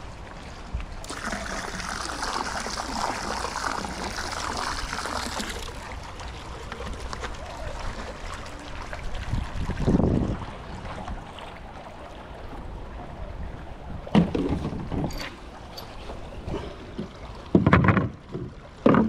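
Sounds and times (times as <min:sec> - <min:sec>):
pool water splashing: 0:00.0 - 0:19.0.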